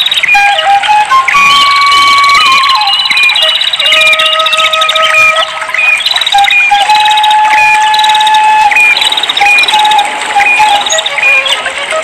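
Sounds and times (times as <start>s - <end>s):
birds trilling and chirping: 0.0s - 12.0s
flute playing long notes: 0.0s - 12.0s.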